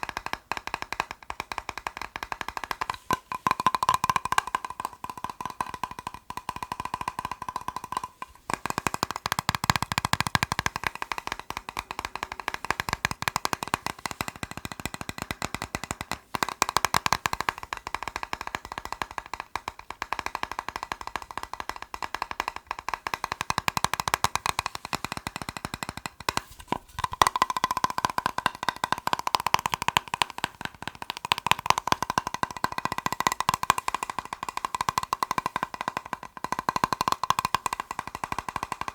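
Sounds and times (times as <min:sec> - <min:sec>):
fast tapping on plastic box: 0:00.0 - 0:38.9.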